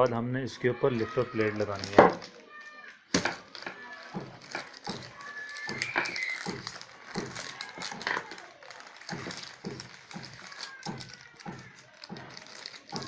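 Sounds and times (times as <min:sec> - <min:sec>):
small metal parts clicking: 0:00.8 - 0:13.0.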